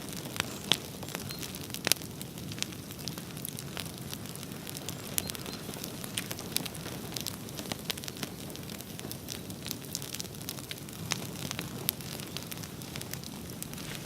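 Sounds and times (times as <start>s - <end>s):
bonfire rumble: 0.0s - 14.0s
burning wood popping and crackling: 0.0s - 14.0s.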